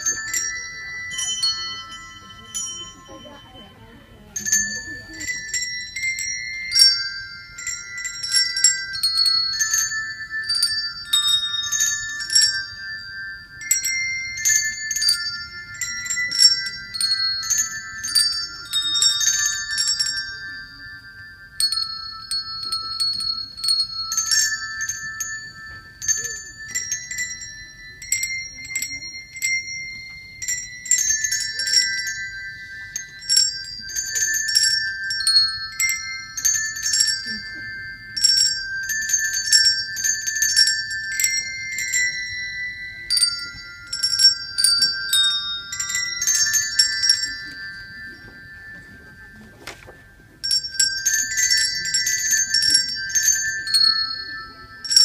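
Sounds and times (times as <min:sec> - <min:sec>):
handbells ringing a tune: 0:00.0 - 0:55.0.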